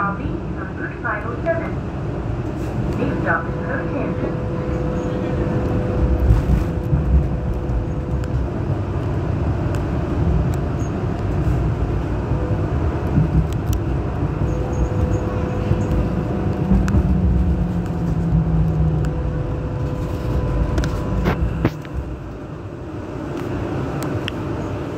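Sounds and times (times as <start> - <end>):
train wheels rumbling: 0.0 - 24.9
higher hum: 2.1 - 23.4.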